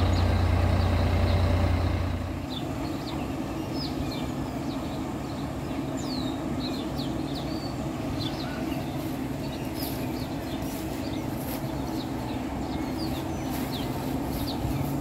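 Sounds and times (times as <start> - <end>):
low hum of machinery: 0.0 - 15.0.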